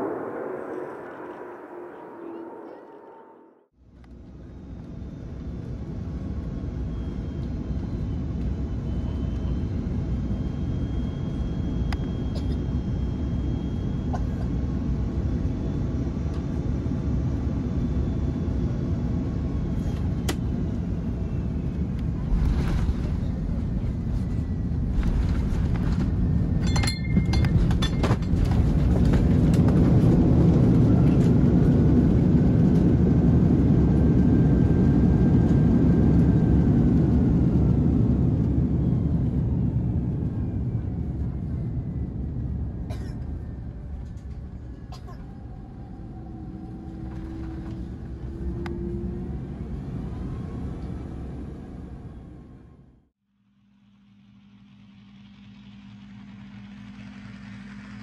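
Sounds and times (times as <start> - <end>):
airplane cabin rumble: 0.0 - 53.1, 53.9 - 58.0
jet engines reverse thrust: 0.0 - 58.0.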